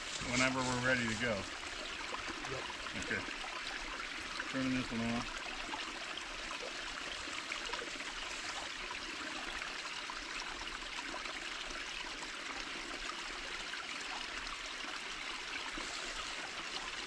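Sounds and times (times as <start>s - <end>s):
creek water rushing over dam: 0.0s - 17.0s.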